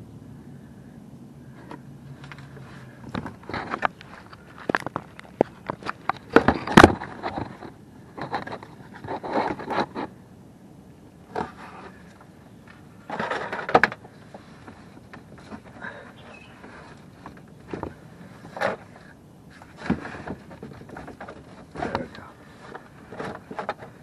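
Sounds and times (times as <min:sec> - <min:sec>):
rustling and scraping: 0:01.5 - 0:10.2, 0:11.3 - 0:24.0.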